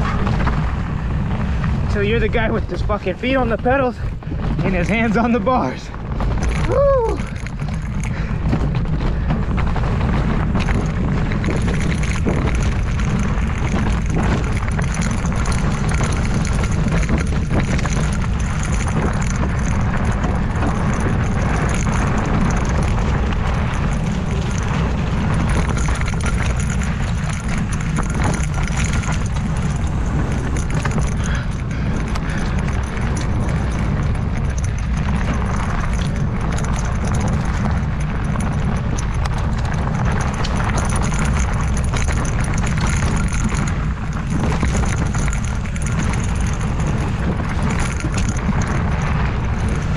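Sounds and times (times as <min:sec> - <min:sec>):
bike knocking and rattling: 0:00.0 - 0:49.9
tyres on dirt trail: 0:00.0 - 0:49.9
wind rushing over microphone: 0:00.0 - 0:49.9.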